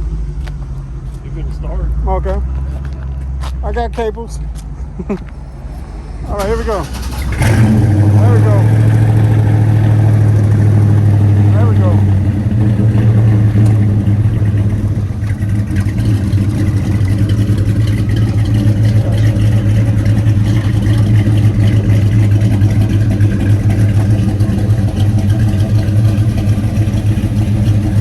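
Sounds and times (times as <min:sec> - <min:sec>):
car engine idling: 0:03.7 - 0:28.0.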